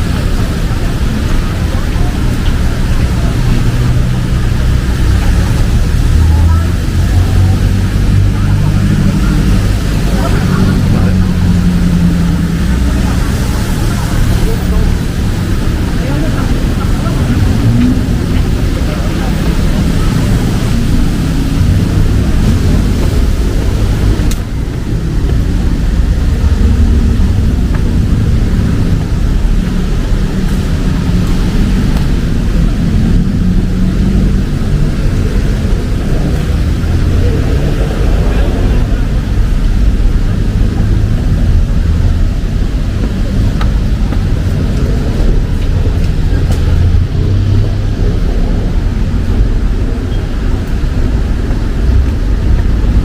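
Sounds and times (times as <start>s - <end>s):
rain hiss: 0.0s - 53.0s
road traffic rumble: 0.0s - 53.0s.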